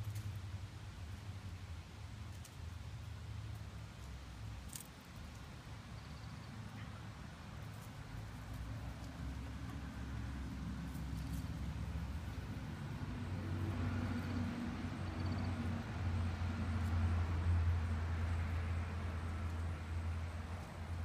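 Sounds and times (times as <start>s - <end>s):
vehicle rumbling past: 0.0s - 21.0s.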